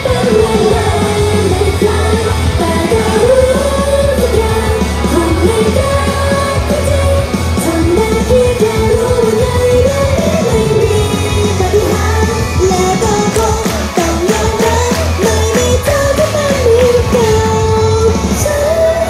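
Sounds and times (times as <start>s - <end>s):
pop music with heavy bass: 0.0s - 19.0s
woman singing: 0.0s - 19.0s.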